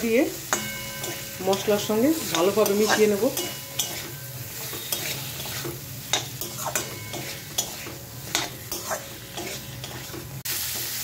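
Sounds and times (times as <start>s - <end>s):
frying oil sizzling: 0.0s - 11.0s
spatula scraping and stirring: 0.0s - 11.0s.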